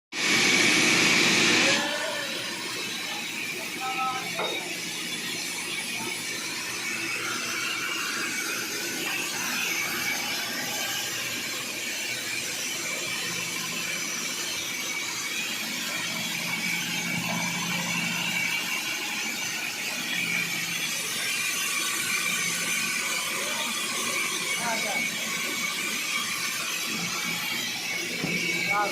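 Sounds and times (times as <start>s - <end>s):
saw squealing whine: 0.2s - 28.9s.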